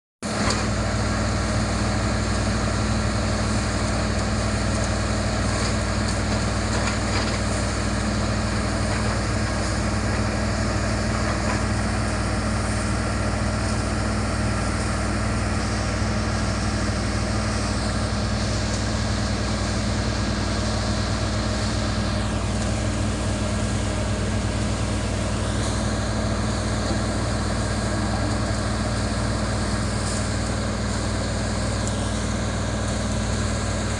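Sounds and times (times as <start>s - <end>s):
heavy machinery engine humming: 0.3s - 33.9s.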